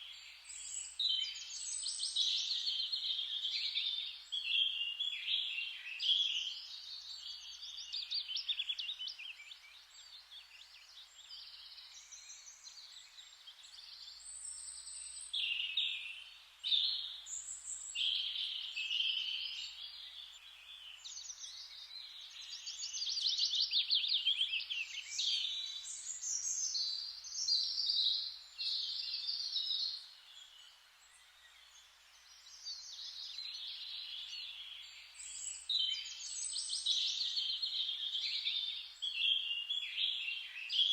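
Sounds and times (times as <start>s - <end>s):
songbirds singing and chirping: 0.0s - 40.9s
faint even hiss: 0.1s - 40.9s.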